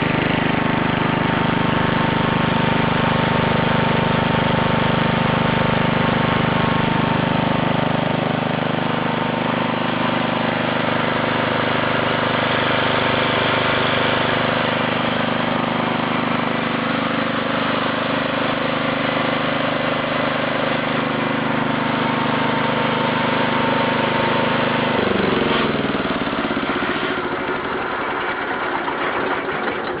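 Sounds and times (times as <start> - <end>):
concrete saw engine running: 0.0 - 30.0.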